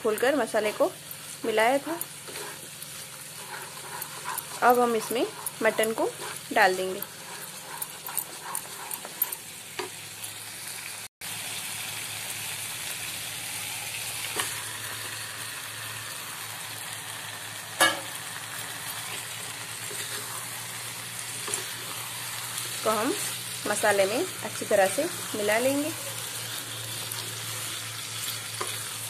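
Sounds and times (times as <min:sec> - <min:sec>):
spice paste sizzling: 0:00.0 - 0:29.0.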